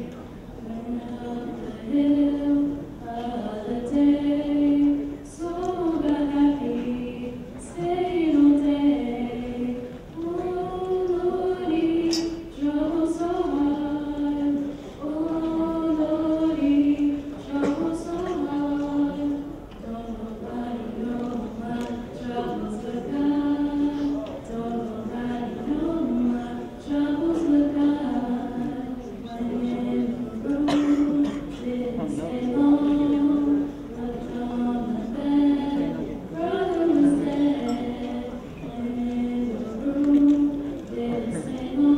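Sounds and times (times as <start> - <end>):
choir singing unaccompanied: 0.0 - 41.9.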